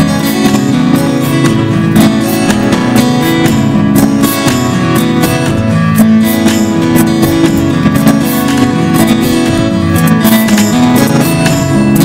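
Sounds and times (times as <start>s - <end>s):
strummed guitar music: 0.0s - 12.0s.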